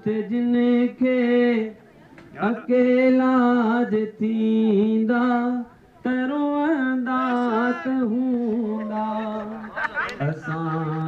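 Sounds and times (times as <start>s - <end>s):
man singing into a microphone: 0.0s - 1.8s, 2.4s - 11.0s.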